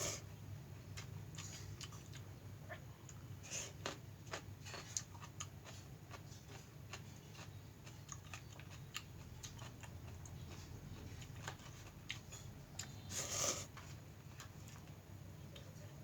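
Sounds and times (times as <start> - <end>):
chewing and mouth noises: 1.0 - 15.8.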